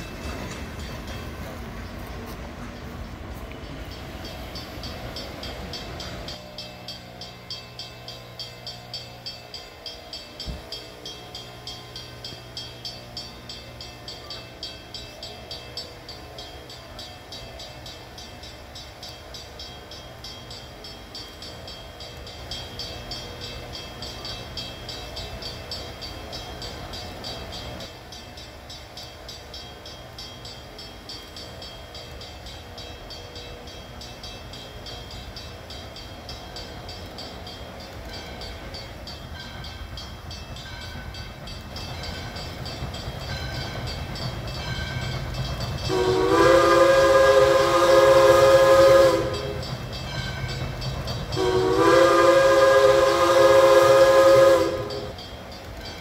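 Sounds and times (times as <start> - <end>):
steam train chugging: 0.0 - 56.0.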